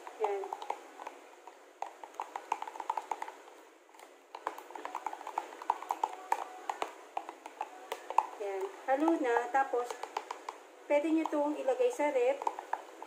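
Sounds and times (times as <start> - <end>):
utensil tapping plastic container: 0.0 - 13.0.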